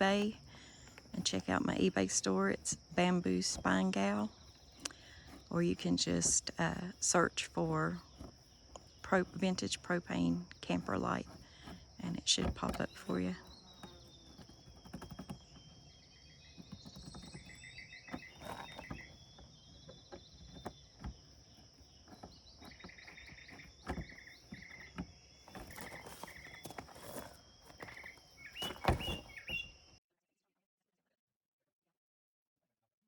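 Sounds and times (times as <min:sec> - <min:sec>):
insects chirping rapidly: 0:00.0 - 0:30.0
insects droning: 0:00.0 - 0:30.0.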